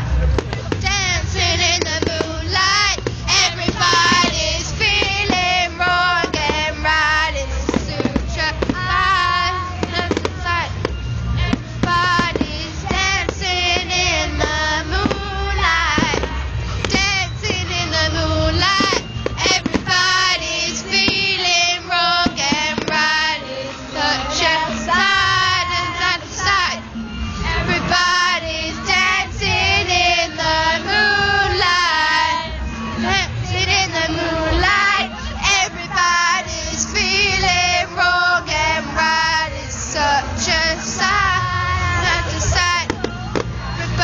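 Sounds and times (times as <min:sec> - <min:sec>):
girls singing together: 0:00.0 - 0:44.0
music: 0:00.0 - 0:44.0.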